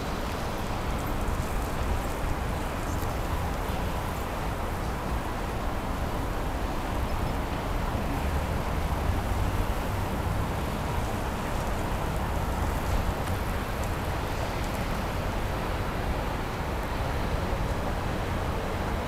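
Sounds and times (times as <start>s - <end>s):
low city rumble: 0.0s - 19.0s.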